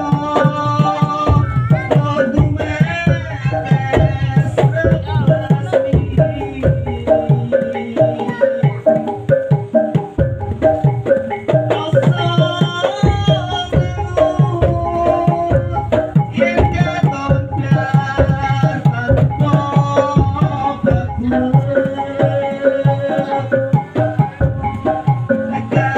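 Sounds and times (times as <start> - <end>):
fast hand drum beats: 0.0 - 25.9
pitched melody line: 0.0 - 25.9.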